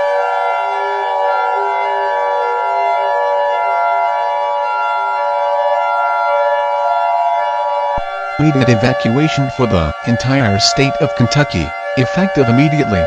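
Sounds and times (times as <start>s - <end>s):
electronic alert siren chord: 0.0s - 13.0s.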